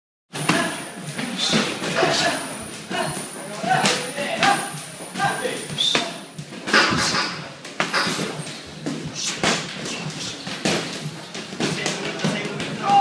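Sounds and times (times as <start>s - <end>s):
gym background noise: 0.3s - 13.0s
boxing gloves slapping: 0.4s - 13.0s.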